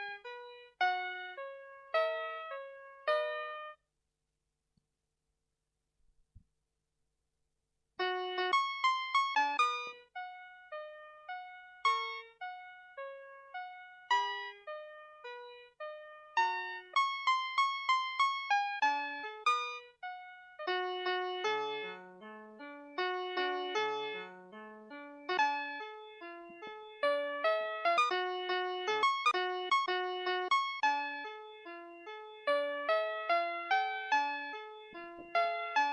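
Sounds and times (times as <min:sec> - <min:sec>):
toy playing electronic piano tune: 0:00.0 - 0:03.8, 0:08.0 - 0:35.9.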